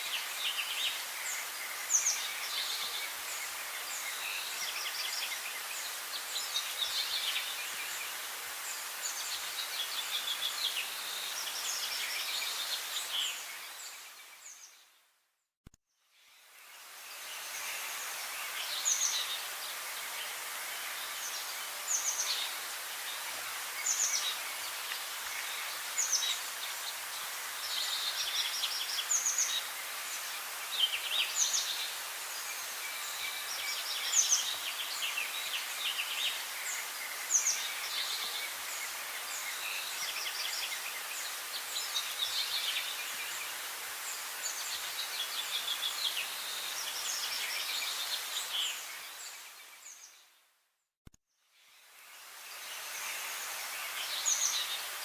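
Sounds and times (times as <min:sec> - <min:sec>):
steady background hiss: 0:00.0 - 0:14.8, 0:16.2 - 0:50.1, 0:51.6 - 0:55.0.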